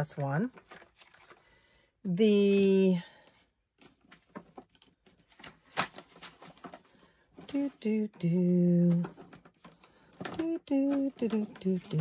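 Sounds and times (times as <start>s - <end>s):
paper rustling and tapping: 0.4s - 1.4s, 2.4s - 12.0s.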